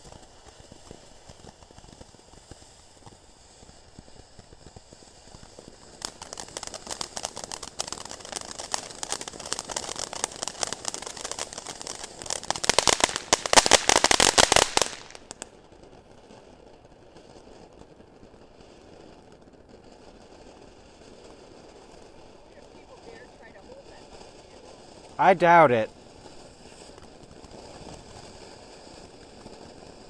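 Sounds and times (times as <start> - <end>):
firework crackling: 0.0 - 30.0.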